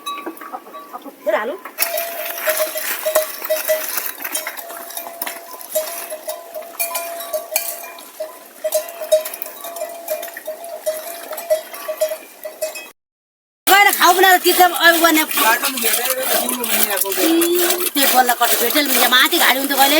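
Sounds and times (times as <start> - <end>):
livestock bells clanking: 0.0 - 12.9, 13.7 - 19.9.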